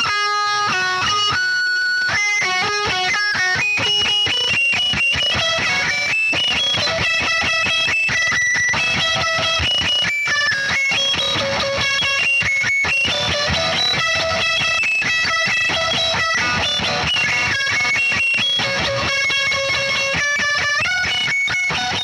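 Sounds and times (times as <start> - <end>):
distorted electric guitars: 0.0 - 22.0.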